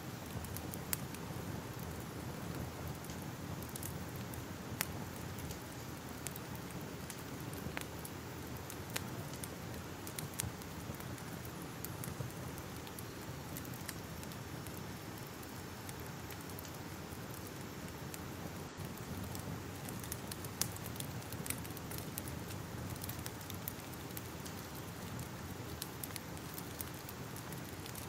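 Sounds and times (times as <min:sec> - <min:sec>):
fire crackling: 0:00.0 - 0:28.0.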